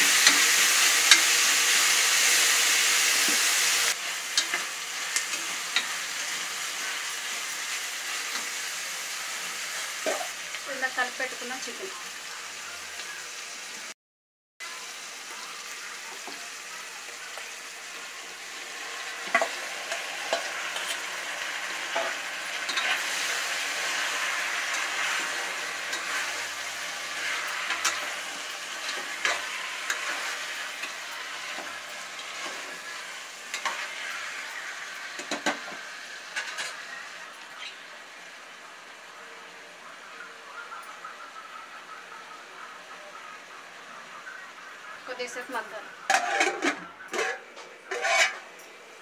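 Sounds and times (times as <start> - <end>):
chicken sizzling in hot oil: 0.0 - 14.0, 14.6 - 49.0.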